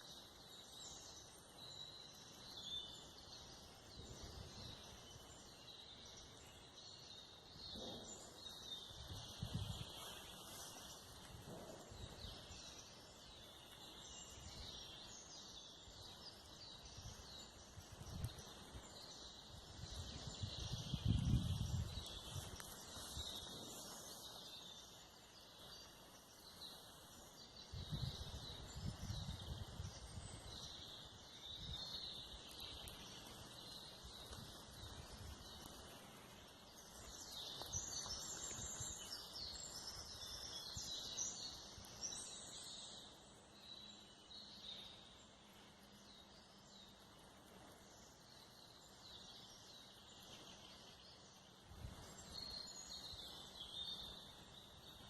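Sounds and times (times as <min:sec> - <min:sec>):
forest birds singing: 0:00.0 - 0:55.0.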